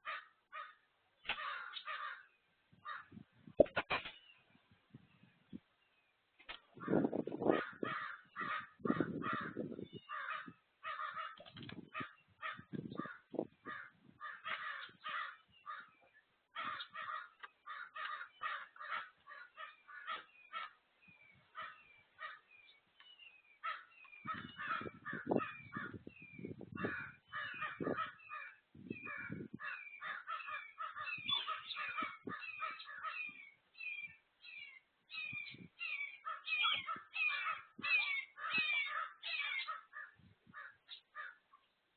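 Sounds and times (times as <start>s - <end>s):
birds chattering at a feeder: 0.0s - 3.2s, 6.6s - 41.8s.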